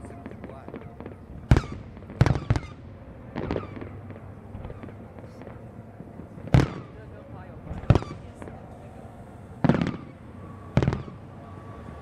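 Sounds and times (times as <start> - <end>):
firework shells booming: 0.0 - 8.6, 9.6 - 11.3
faint firework crackling: 0.0 - 12.0.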